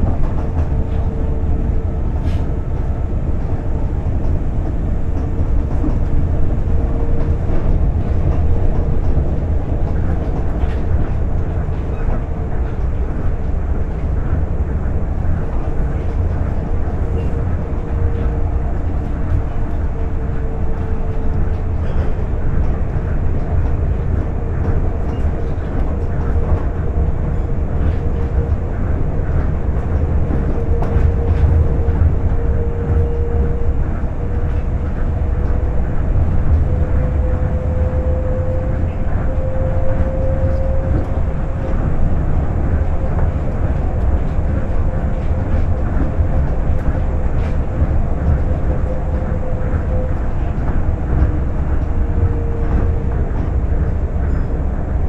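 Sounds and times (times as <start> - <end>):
steady train whine: 0.0 - 55.0
train tyres rumbling: 0.0 - 55.0.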